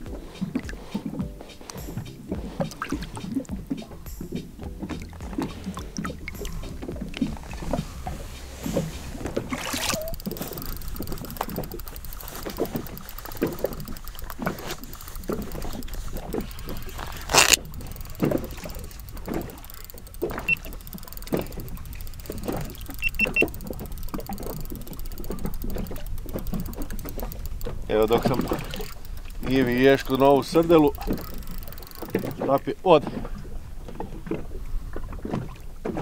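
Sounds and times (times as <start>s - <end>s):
water sloshing against boat hull: 0.0s - 36.0s.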